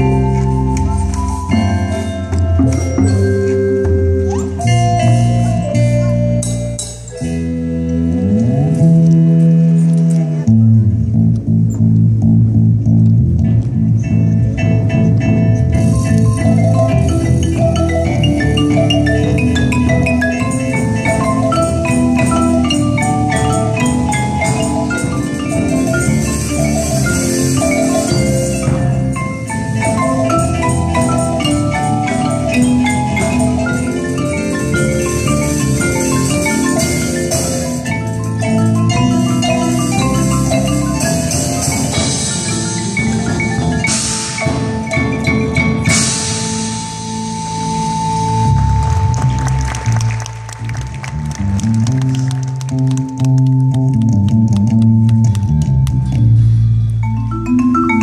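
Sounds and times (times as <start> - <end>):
marimbas and vibraphones playing: 0.0 - 58.0.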